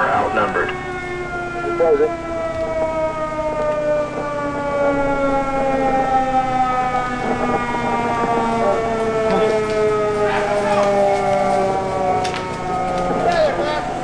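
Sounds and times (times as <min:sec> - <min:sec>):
air-raid siren winding down: 0:00.0 - 0:14.0.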